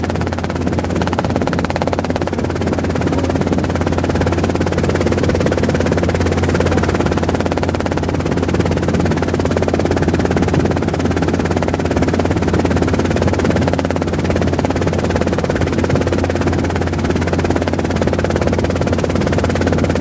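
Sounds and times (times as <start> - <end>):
helicopter engine and rotors droning: 0.0 - 20.0.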